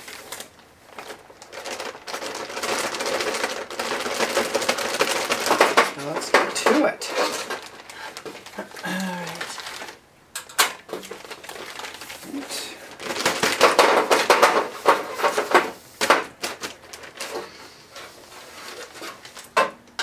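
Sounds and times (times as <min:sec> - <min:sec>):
plastic bag rustling and crinkling: 0:00.0 - 0:19.7.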